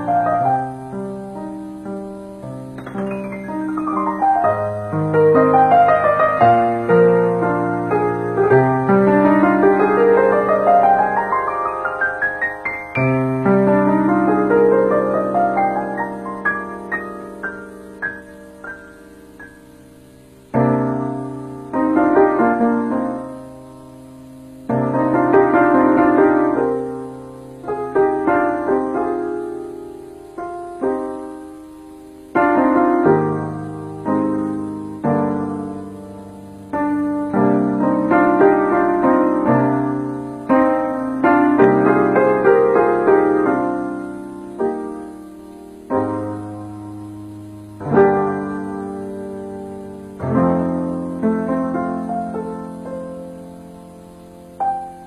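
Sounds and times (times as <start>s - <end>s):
slow keyboard chords: 0.0s - 55.0s
slow solo piano: 0.0s - 55.0s.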